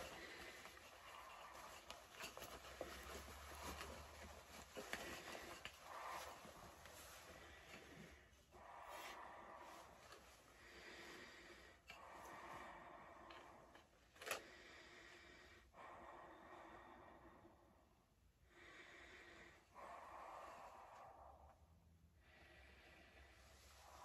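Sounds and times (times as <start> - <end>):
heavy breathing through a mask: 0.0 - 24.0.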